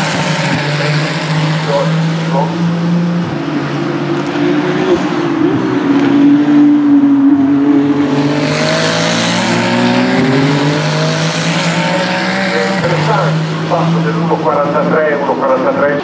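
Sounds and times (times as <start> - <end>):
low engine drone: 0.0 - 16.0
race car engine passing: 0.0 - 16.0.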